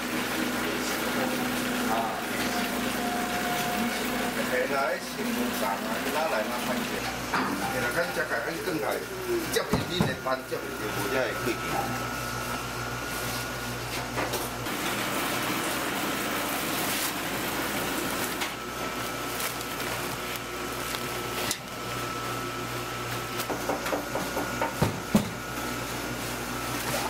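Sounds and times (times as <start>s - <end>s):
machinery whirring hum: 0.0s - 27.0s.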